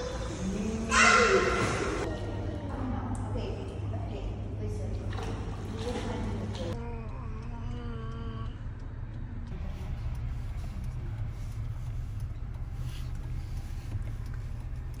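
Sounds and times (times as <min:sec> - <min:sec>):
low rumble of moving car: 0:00.0 - 0:15.0.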